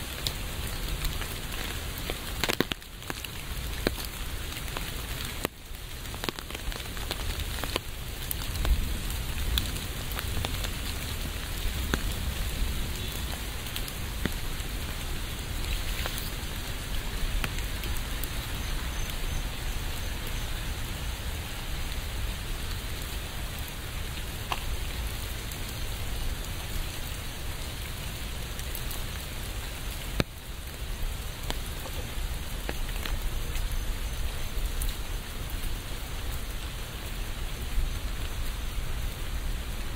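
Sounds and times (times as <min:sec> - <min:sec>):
rain falling with drops ticking: 0:00.0 - 0:39.9.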